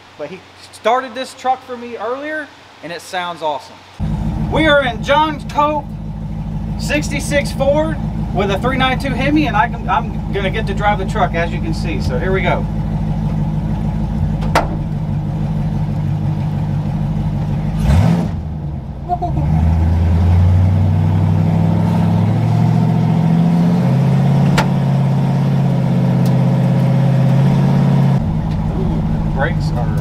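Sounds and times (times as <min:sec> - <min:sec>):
engine idling and pulling away: 0:04.0 - 0:30.0.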